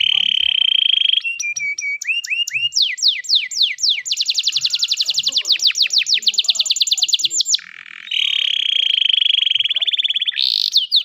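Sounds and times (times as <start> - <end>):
canary singing trill: 0.0 - 11.0.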